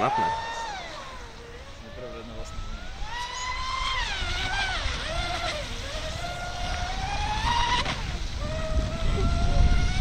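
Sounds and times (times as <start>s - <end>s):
high-pitched electric motor whine: 0.0s - 10.0s.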